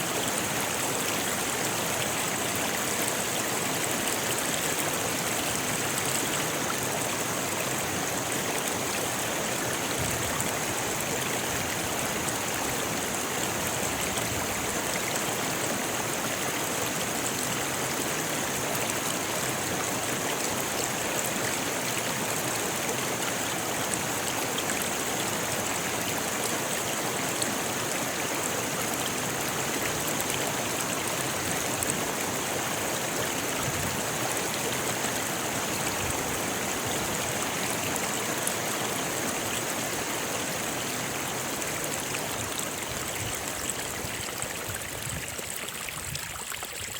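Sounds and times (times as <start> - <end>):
river rushing over stones: 0.0 - 46.9.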